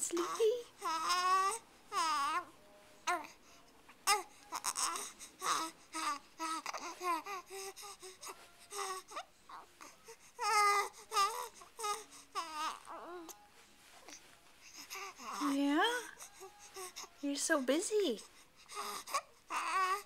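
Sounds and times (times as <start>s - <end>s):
baby babbling and cooing: 0.0s - 3.4s, 4.0s - 13.4s, 14.0s - 17.1s, 18.6s - 20.0s.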